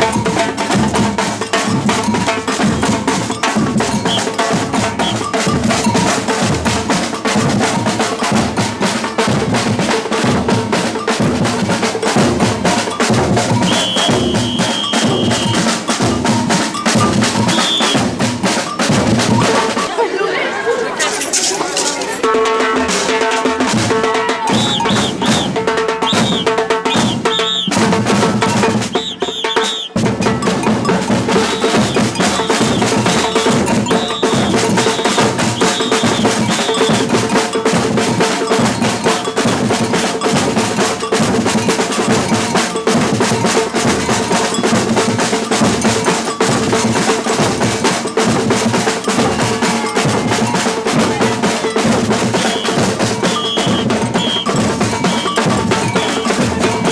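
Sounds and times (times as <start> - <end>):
samba drumming: 0.0 - 20.2, 21.0 - 56.9.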